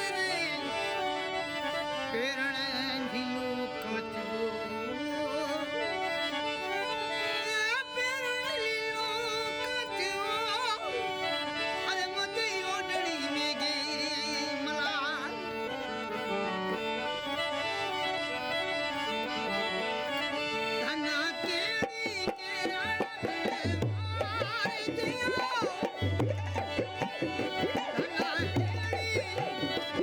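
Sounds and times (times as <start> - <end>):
harmonium: 0.0 - 30.0
man singing: 0.0 - 30.0.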